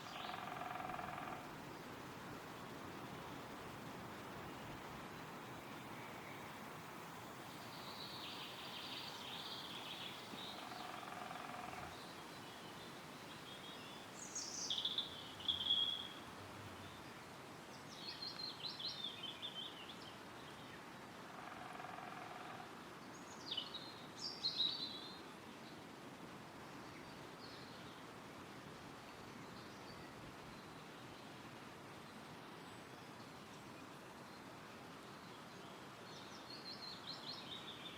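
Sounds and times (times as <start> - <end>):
songbirds chirping: 0.0 - 25.9, 26.6 - 37.9
wind rustling through trees: 0.0 - 37.9.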